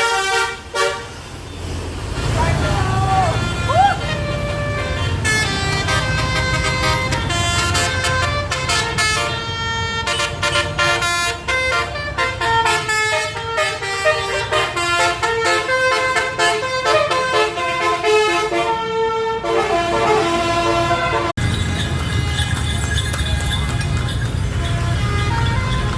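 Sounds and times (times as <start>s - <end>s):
multi-tone bus air horn tune: 0.0s - 1.4s, 2.2s - 22.8s, 24.5s - 25.9s
bus engine running: 0.0s - 25.9s.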